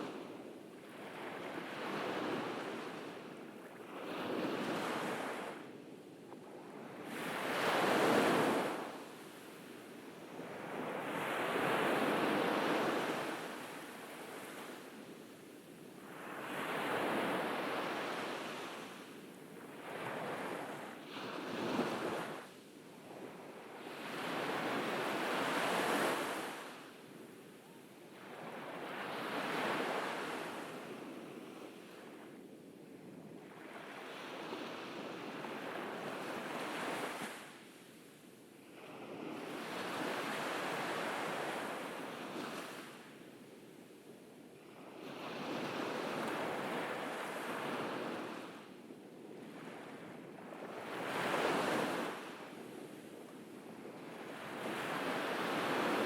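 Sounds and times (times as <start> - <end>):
ocean waves breaking on beach: 6.5 - 32.5, 33.4 - 43.4, 44.6 - 48.8, 49.4 - 56.0.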